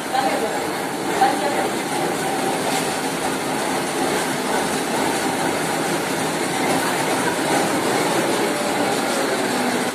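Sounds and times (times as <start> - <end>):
printing machine running: 0.0 - 9.9.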